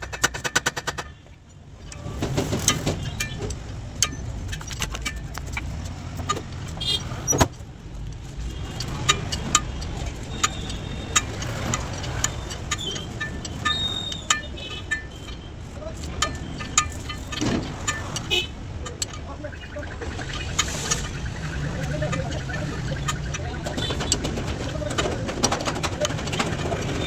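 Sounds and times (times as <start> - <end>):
rapid hammering strikes: 0.0 - 1.3, 2.1 - 27.0
metal clinks and knocks: 0.0 - 27.0.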